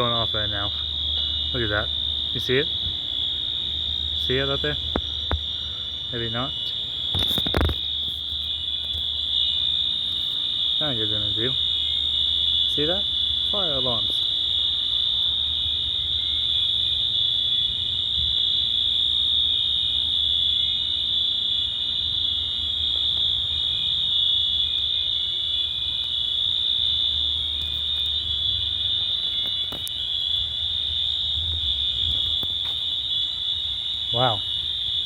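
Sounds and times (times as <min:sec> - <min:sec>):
fire alarm steady tone: 0:00.0 - 0:35.0.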